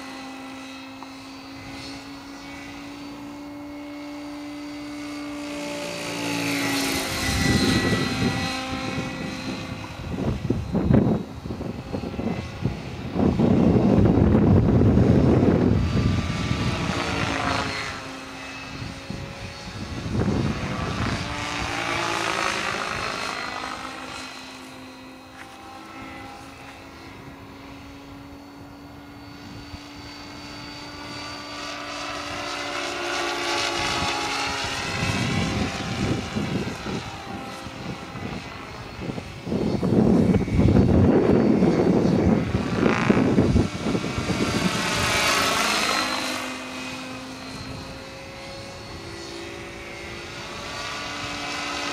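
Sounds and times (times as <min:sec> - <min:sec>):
model helicopter rotor whine: 0:00.0 - 0:51.9.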